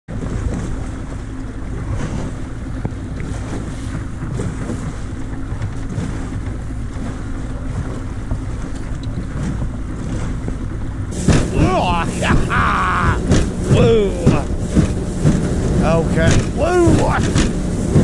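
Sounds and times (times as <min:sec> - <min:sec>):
outboard motor running: 0:00.1 - 0:18.0
water rushing: 0:00.1 - 0:18.0
wind buffeting microphone: 0:00.1 - 0:18.0.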